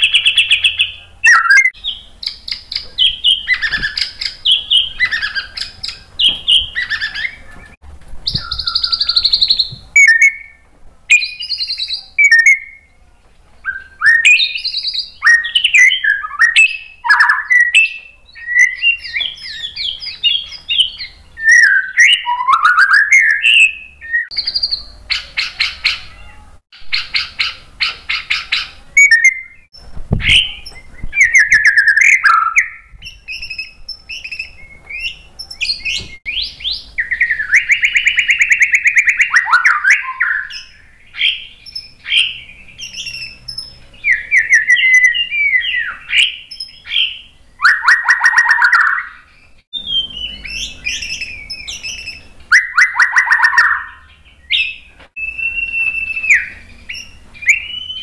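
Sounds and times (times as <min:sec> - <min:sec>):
bird singing whistles and rattles: 0:00.0 - 0:12.9, 0:13.6 - 0:26.2, 0:26.8 - 0:58.0.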